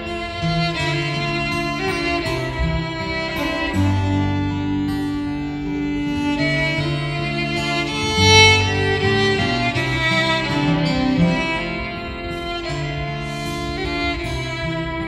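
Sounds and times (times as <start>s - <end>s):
acoustic guitar accompaniment: 0.0s - 15.0s
violin playing slow melody: 0.0s - 15.0s.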